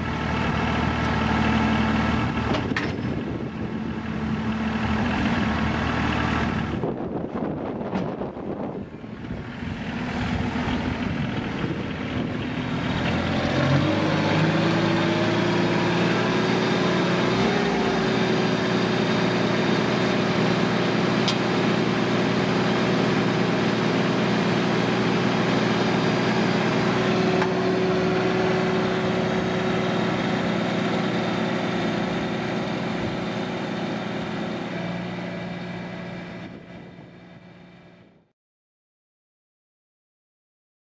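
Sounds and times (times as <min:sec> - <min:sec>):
tractor diesel engine running: 0:00.0 - 0:38.2.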